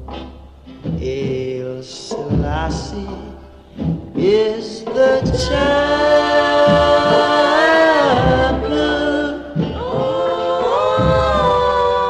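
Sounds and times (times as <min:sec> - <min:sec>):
low drum beats: 0:00.0 - 0:12.0
voices singing held notes: 0:00.8 - 0:12.0.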